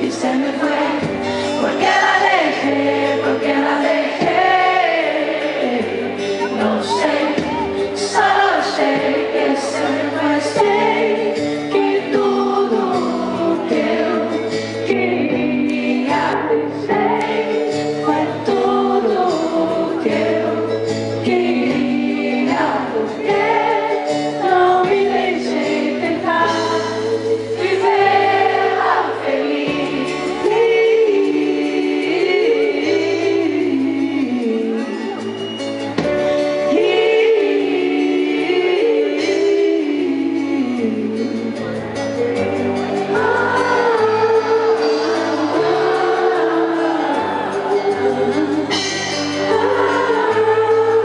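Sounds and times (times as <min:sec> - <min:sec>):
live band music: 0:00.0 - 0:51.0
voices singing: 0:00.0 - 0:51.0.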